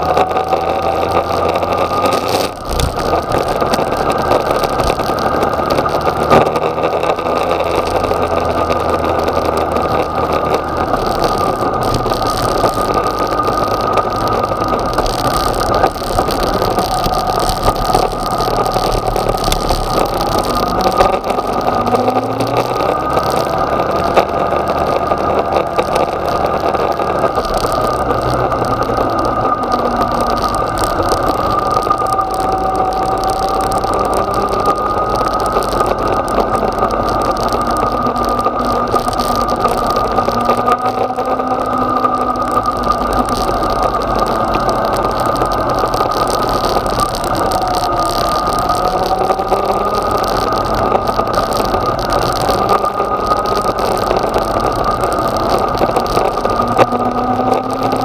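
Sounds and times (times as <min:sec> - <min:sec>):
road and wind noise: 0:00.0 - 0:58.0
steady high whine: 0:00.0 - 0:58.0.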